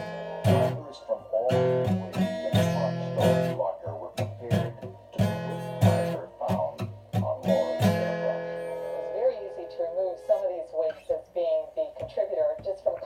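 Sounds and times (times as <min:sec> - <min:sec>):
guitar strummed chords: 0:00.0 - 0:10.6.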